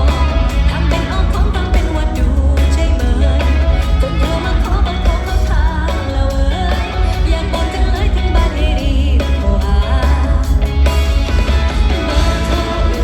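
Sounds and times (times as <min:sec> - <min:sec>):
woman singing: 0:00.0 - 0:10.9, 0:11.9 - 0:13.0
live band with heavy bass: 0:00.0 - 0:13.0.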